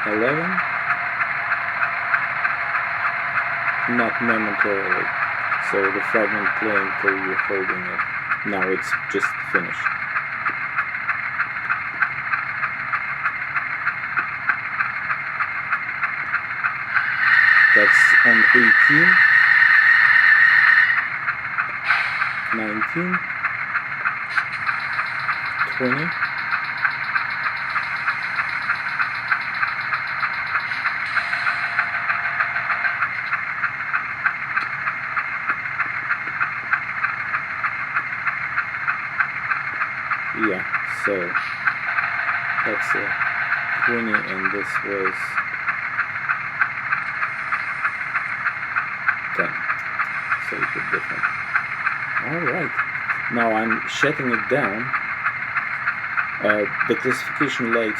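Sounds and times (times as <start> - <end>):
model locomotive engine hum: 0.0 - 57.9
sharp rhythmic pulses: 0.0 - 57.9.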